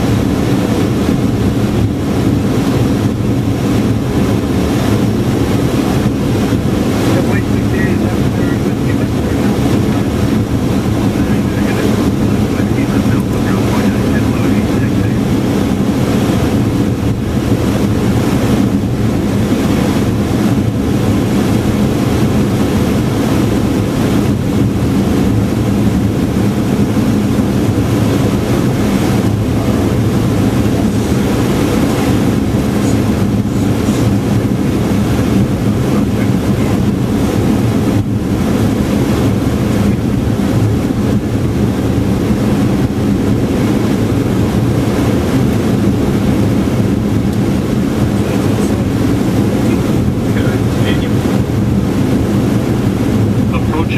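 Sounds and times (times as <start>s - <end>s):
cockpit airflow and engine rush: 0.0s - 53.9s.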